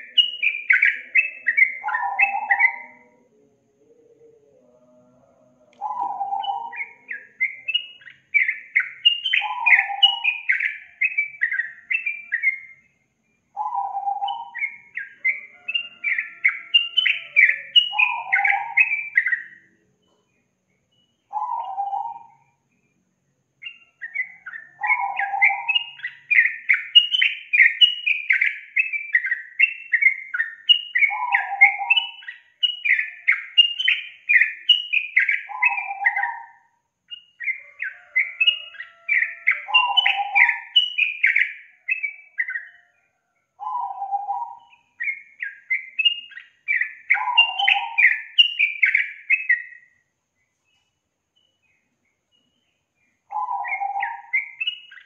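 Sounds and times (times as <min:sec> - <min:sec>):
bulbul singing: 0:00.0 - 0:22.9, 0:23.5 - 0:55.0.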